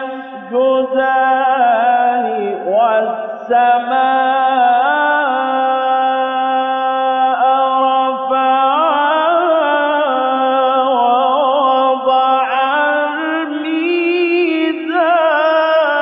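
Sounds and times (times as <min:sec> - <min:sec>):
man reciting in melodic chant: 0:00.0 - 0:16.0.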